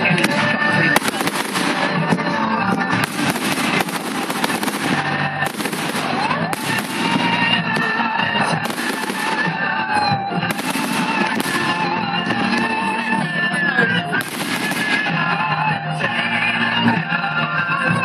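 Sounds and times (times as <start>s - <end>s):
fireworks bangs: 0.0s - 13.1s, 14.1s - 15.6s
fireworks crackling and whistling: 0.0s - 17.1s
music: 0.0s - 18.0s.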